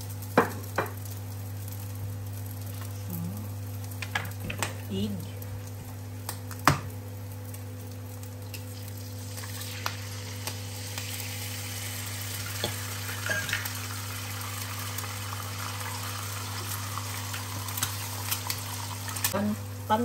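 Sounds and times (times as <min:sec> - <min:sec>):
egg sizzling in oil: 0:00.0 - 0:19.4.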